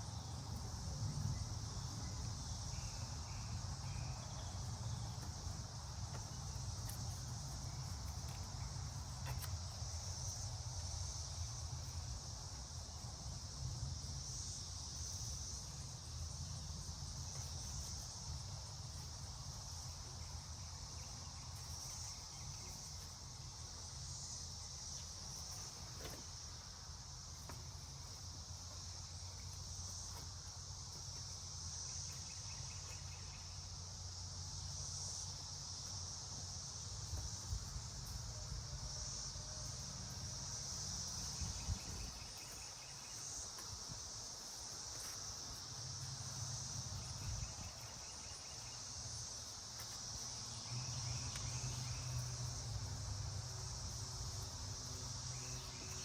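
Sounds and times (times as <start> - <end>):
cricket trills: 0.0 - 56.0
insect chorus: 0.0 - 56.0.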